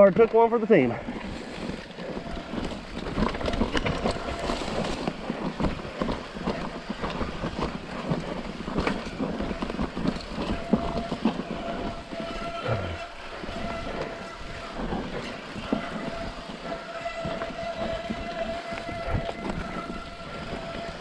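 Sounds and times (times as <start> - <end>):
bike rattling: 0.0 - 21.0
tyres on loose soil: 0.0 - 21.0.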